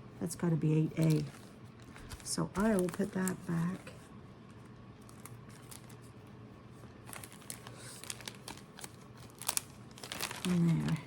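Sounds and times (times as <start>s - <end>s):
fabric and packet crinkling: 0.7s - 11.0s.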